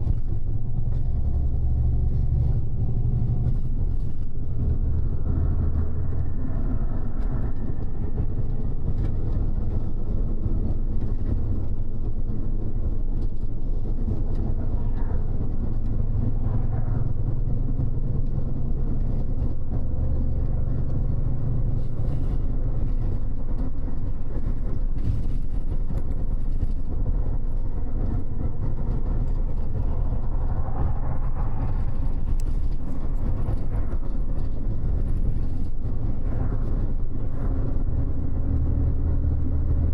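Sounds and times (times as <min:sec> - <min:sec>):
bus engine and tyre rumble: 0:00.0 - 0:39.9.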